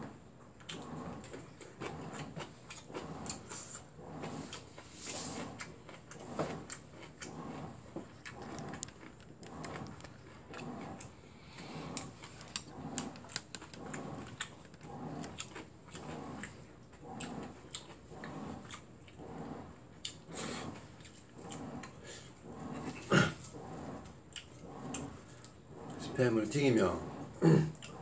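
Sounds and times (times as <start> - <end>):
washing machine drum swishing: 0.8 - 8.8, 9.5 - 15.3, 16.0 - 28.0.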